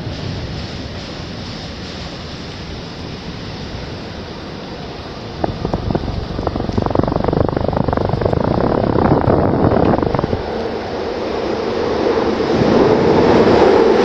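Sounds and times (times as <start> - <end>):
vehicle rattling rumble: 0.0 - 14.0
wind hiss: 0.0 - 14.0.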